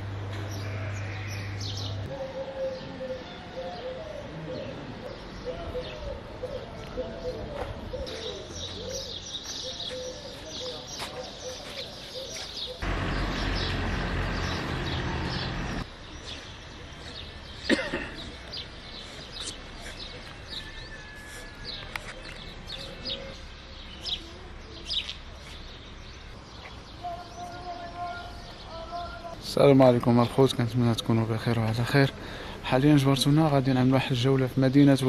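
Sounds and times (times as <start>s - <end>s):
small birds chirping: 0.3s - 35.0s.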